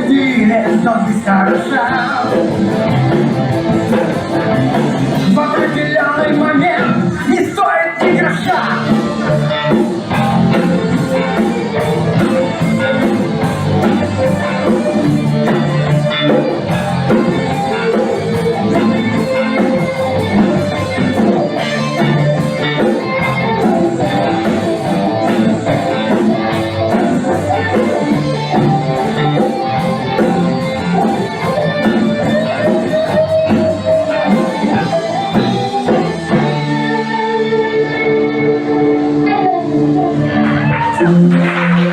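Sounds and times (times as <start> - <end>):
steady drum beat: 0.0 - 37.1
electric guitar: 0.0 - 41.9.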